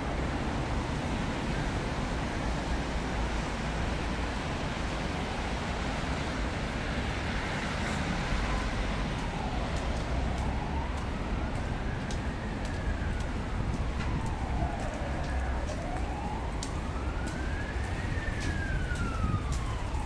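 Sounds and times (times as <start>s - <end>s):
street traffic rumble: 0.0s - 20.0s
faint emergency siren wailing: 0.1s - 20.0s.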